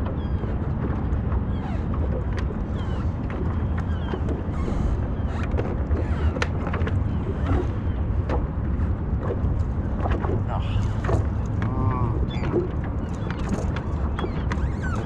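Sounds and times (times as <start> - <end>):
low rumble: 0.0 - 14.6.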